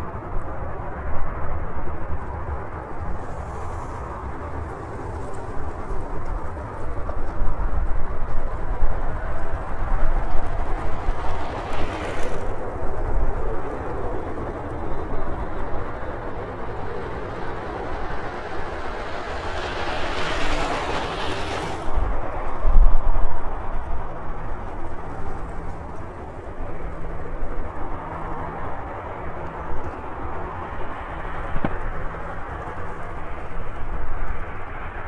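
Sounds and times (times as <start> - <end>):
jet engine rumble: 0.0 - 35.0.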